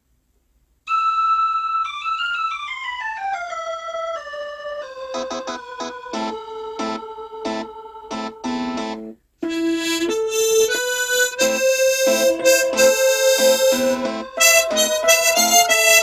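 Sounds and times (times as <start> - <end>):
harmonica melody: 0.9 - 16.0
backing accompaniment: 1.8 - 16.0.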